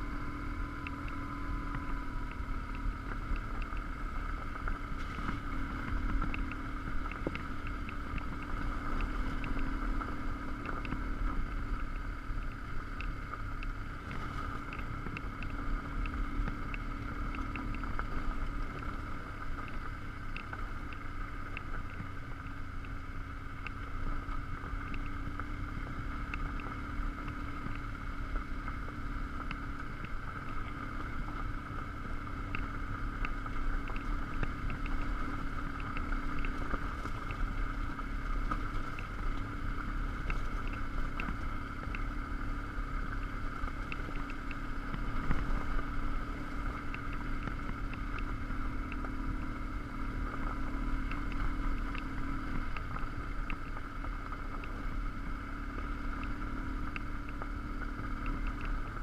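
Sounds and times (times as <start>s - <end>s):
motorcycle engine running: 0.0s - 59.0s
small ticks: 0.0s - 59.0s
tires on gravel: 0.0s - 59.0s
wind and road noise: 0.0s - 59.0s.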